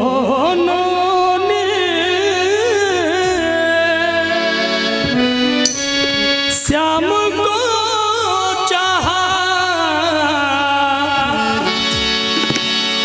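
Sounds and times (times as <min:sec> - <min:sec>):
man singing wordless melody: 0:00.0 - 0:05.6, 0:06.2 - 0:12.2
harmonium chords: 0:00.0 - 0:13.0.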